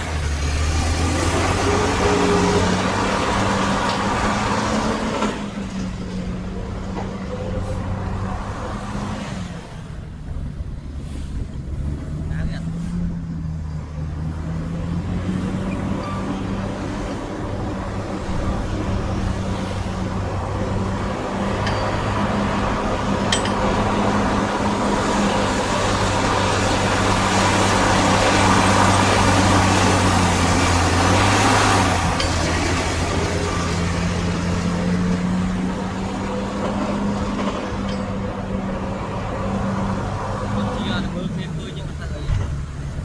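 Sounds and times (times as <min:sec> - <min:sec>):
diesel earthmoving machinery running: 0:00.0 - 0:43.0.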